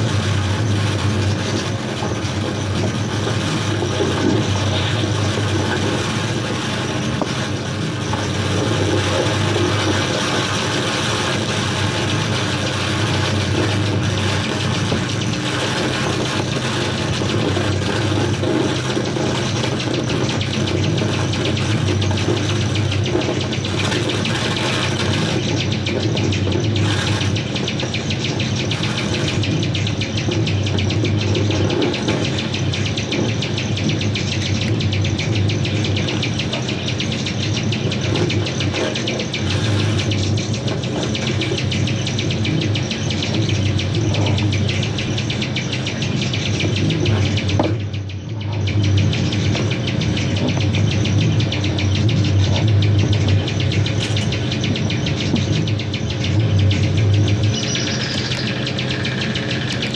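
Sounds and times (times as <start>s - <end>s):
electronic crackling and chirping: 0.0s - 59.9s
low electronic buzz: 0.0s - 59.9s.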